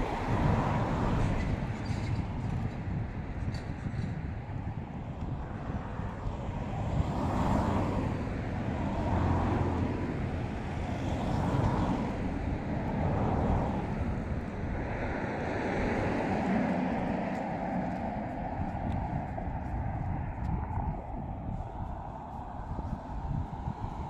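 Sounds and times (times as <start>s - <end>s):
vehicles passing by: 0.0s - 24.0s.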